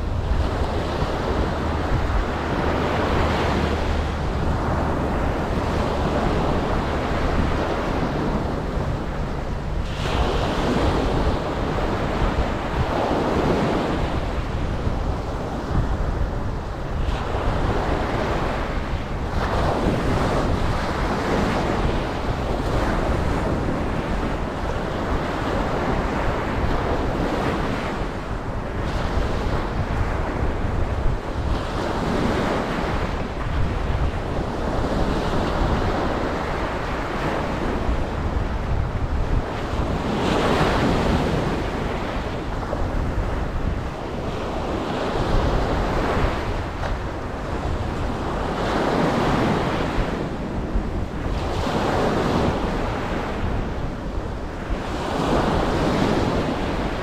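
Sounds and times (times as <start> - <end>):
ocean waves breaking: 0.0 - 57.0
wind rumble on microphone: 0.0 - 57.0.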